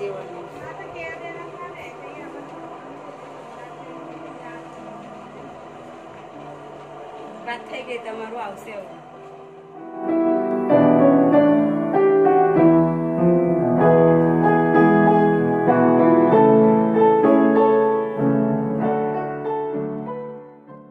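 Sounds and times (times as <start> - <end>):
soft piano music: 0.0 - 20.9.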